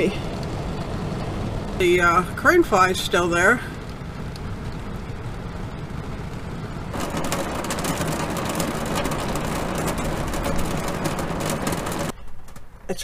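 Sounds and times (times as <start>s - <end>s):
heavy rain on a roof: 0.0s - 12.8s.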